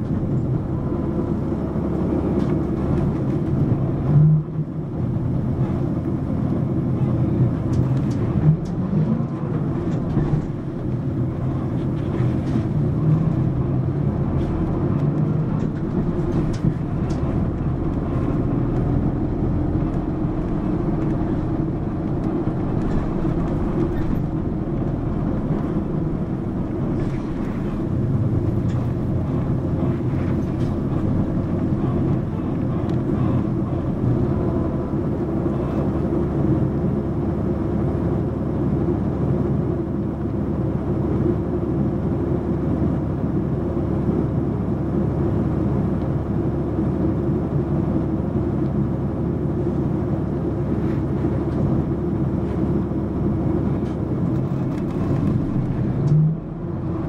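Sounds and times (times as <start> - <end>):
bus diesel engine drone: 0.0 - 57.0
road noise: 0.0 - 57.0.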